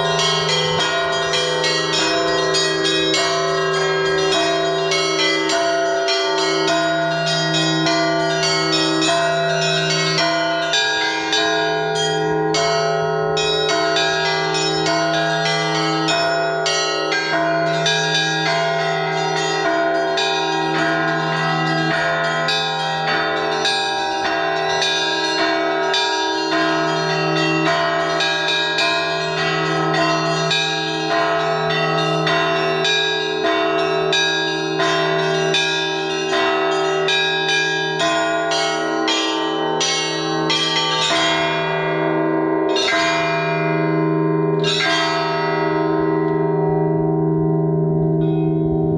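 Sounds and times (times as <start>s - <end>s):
large bells humming: 0.0s - 48.9s
small church bells striking: 0.0s - 48.9s.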